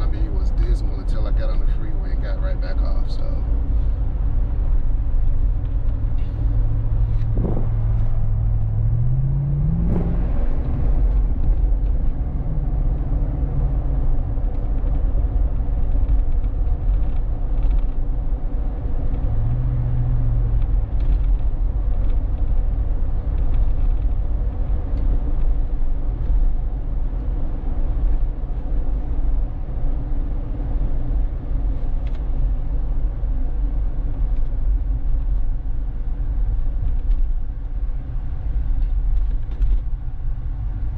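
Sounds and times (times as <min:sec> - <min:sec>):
car engine drone while driving: 0:00.0 - 0:40.9
road noise: 0:00.0 - 0:40.9.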